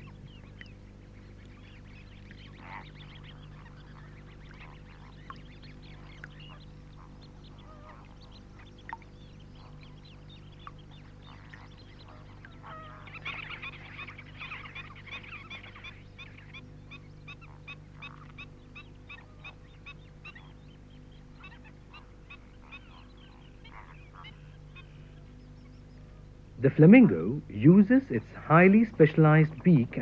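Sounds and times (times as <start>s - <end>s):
flamingos honking: 0.0s - 30.0s
steady low hum: 0.0s - 30.0s.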